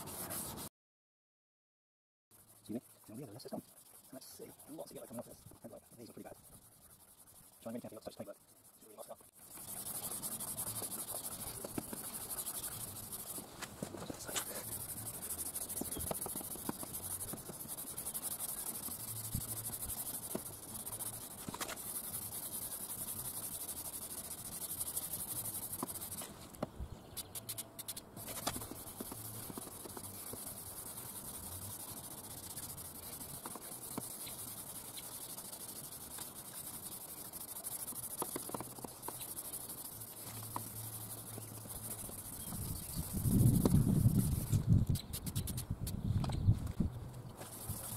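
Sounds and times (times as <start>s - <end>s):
sanding pad scratching plastic: 0.0s - 0.7s, 2.3s - 46.3s, 47.4s - 47.9s.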